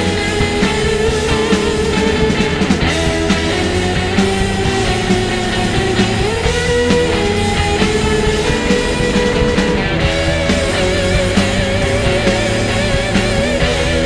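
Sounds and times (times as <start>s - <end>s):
rock music with guitar: 0.0s - 14.0s.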